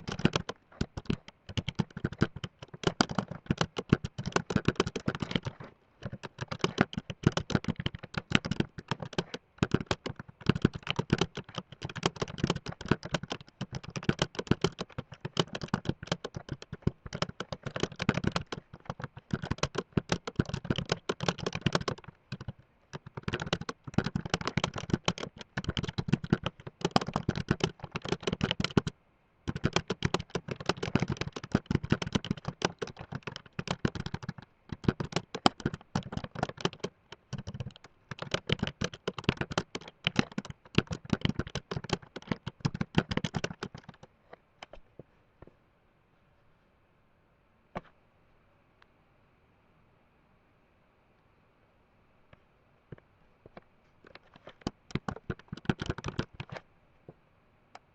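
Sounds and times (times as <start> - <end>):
fast typing on keyboard: 0.0 - 28.9, 29.5 - 44.8, 54.0 - 56.6.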